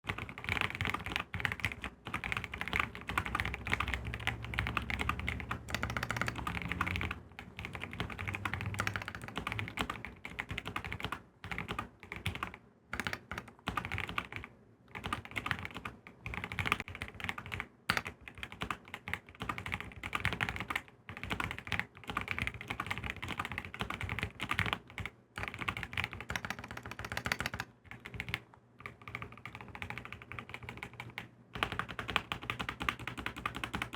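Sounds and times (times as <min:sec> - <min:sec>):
mechanical keyboard typing: 0:00.1 - 0:33.9.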